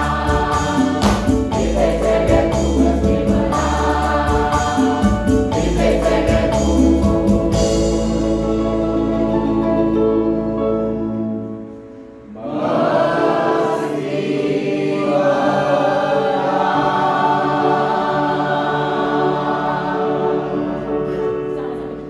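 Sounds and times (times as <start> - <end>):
mixed choir singing in harmony: 0.0 - 11.2, 12.2 - 21.8.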